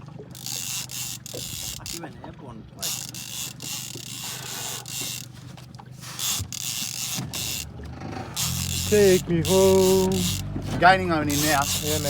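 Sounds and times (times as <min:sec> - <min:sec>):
fishing reel whirring: 0:00.2 - 0:02.1, 0:02.8 - 0:12.0.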